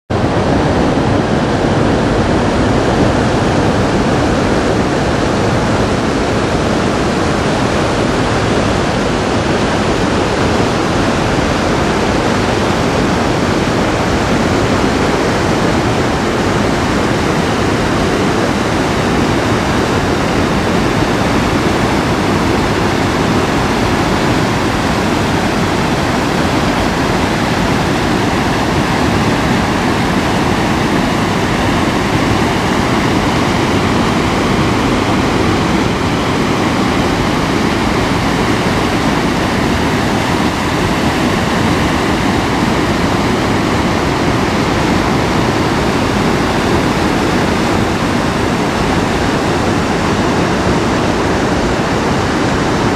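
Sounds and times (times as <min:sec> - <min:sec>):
water rushing over rocks: 0:00.1 - 0:52.9.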